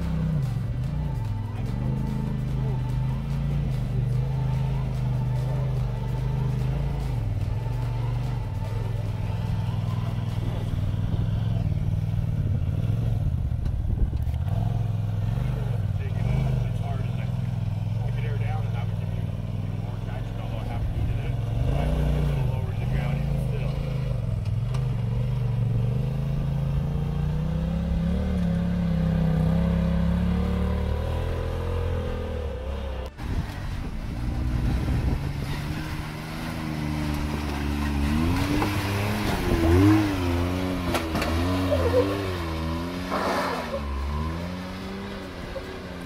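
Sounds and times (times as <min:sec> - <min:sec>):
engine throttle blips: 0:00.0 - 0:46.0
engine working under load: 0:00.0 - 0:46.0.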